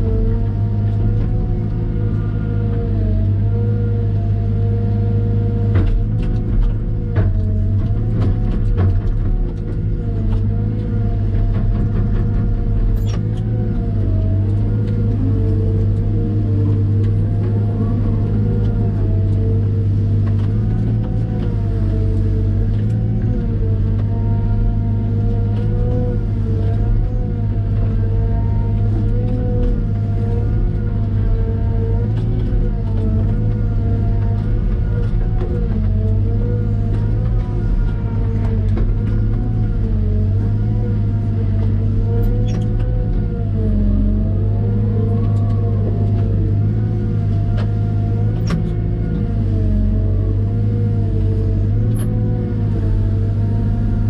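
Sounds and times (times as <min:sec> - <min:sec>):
wheeled excavator running: 0:00.0 - 0:54.0.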